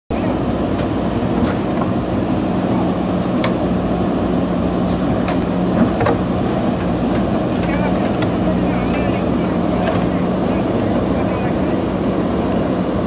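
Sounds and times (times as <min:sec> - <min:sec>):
diesel engines running: 0:00.1 - 0:13.0
hydraulic arms working: 0:00.2 - 0:11.8.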